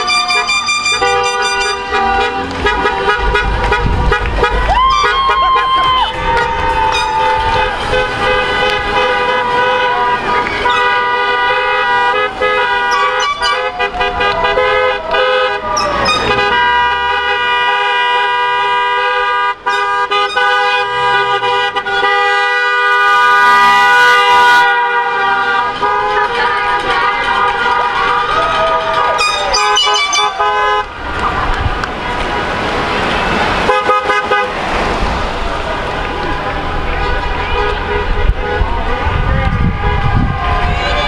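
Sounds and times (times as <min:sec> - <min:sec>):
car horns honking: 0:00.0 - 0:41.0.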